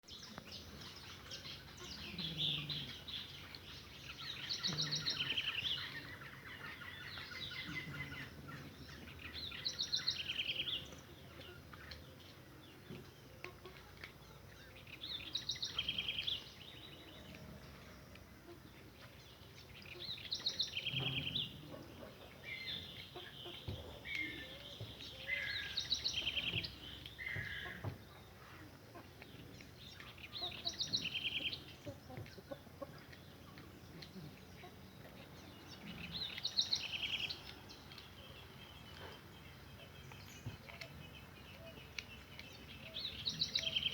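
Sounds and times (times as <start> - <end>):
birds calling with trilled notes: 0.0 - 43.9.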